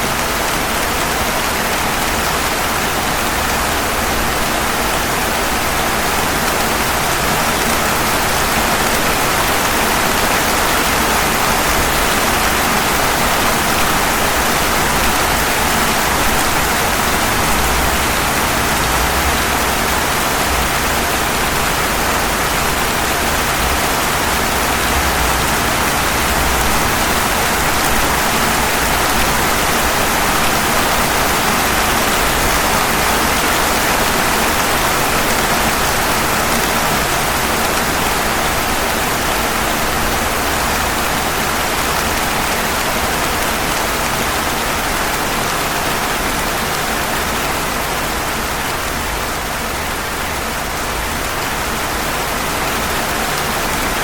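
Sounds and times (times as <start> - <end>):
rain falling on pavement: 0.0 - 54.0.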